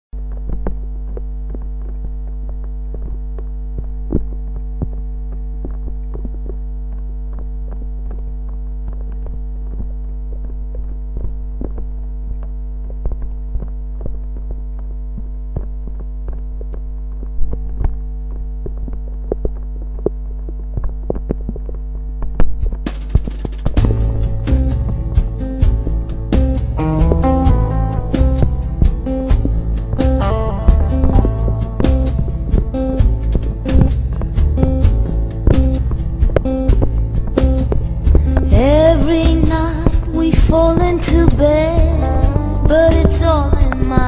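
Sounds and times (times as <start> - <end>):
low electrical hum: 0.2 - 44.0.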